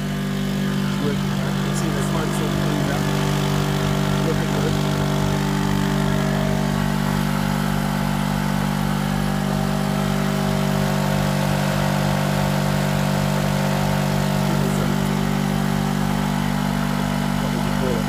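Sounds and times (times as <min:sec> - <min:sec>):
petrol generator purring: 0:00.0 - 0:18.0.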